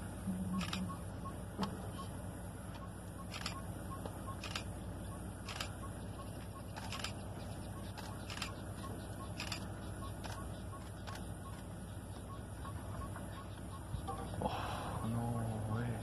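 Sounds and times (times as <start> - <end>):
vehicle engine idling: 0.0 - 16.0
bird calling in sharp notes: 0.4 - 2.2, 2.8 - 16.0.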